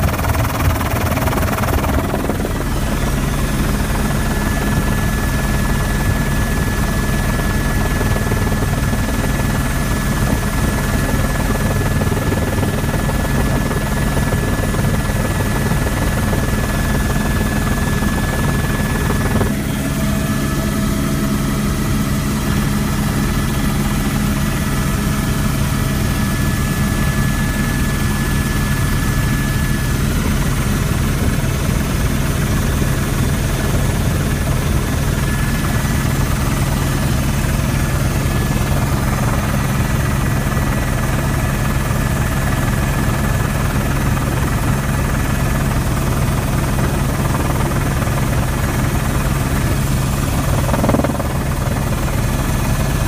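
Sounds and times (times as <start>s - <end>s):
helicopter rotor and engine drone: 0.0s - 53.0s.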